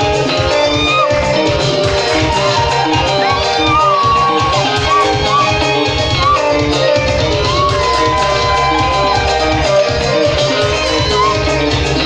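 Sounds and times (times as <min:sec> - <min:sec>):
dance music with guitar: 0:00.0 - 0:12.0.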